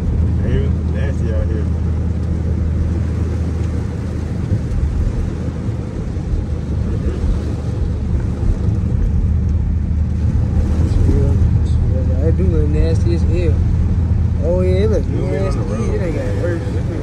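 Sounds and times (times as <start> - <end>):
car engine droning: 0.0 - 17.0
road noise: 0.0 - 17.0.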